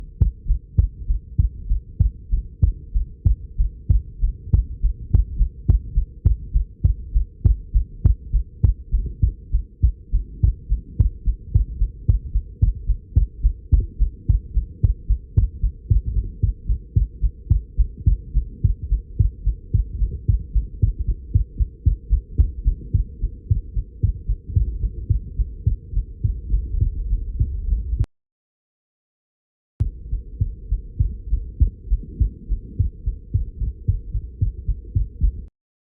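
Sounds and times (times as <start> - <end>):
heartbeat thumping fast: 0.0 - 28.1, 29.8 - 35.5.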